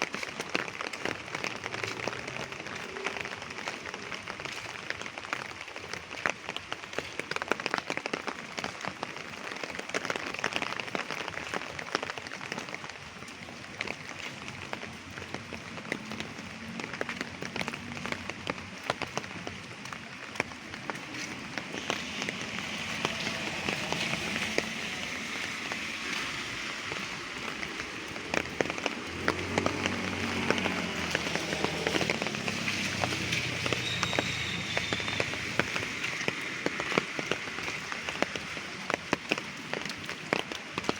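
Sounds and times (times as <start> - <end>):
light rain pattering: 0.0 - 40.9.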